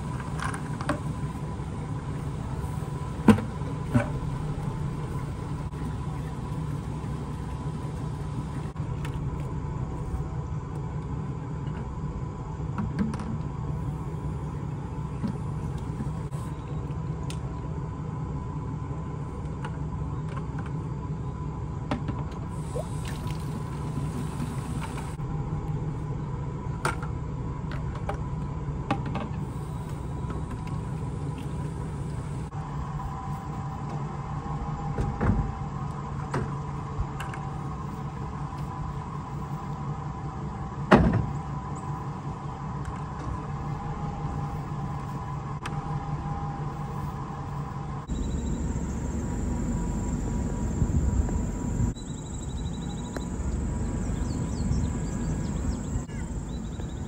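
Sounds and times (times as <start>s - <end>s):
vehicle engine running: 0.0s - 12.8s, 13.4s - 57.0s.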